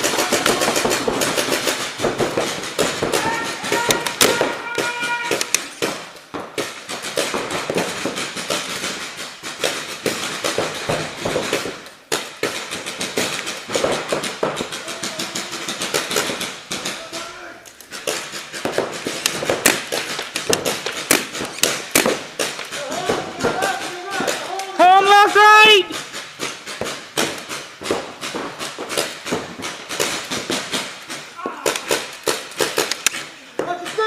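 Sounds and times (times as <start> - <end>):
paintball markers firing: 0.0 - 34.0.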